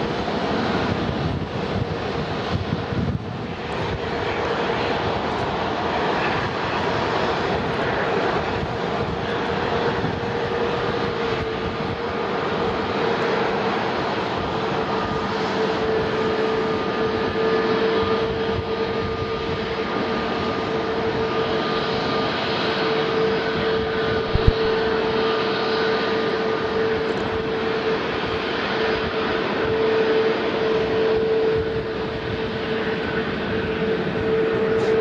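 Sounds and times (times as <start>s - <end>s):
jet engines whining: 0.0s - 35.0s.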